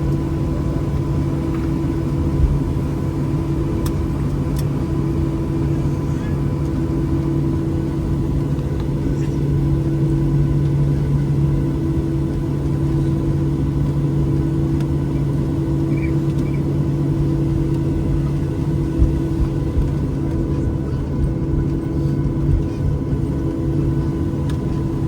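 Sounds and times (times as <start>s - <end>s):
jet engines idling hum: 0.0s - 25.0s.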